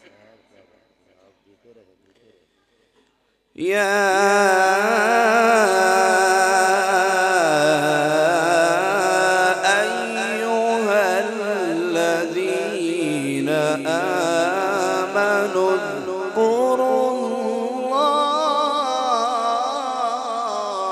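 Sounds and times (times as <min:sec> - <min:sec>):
man reciting melodically: 0:03.6 - 0:20.9.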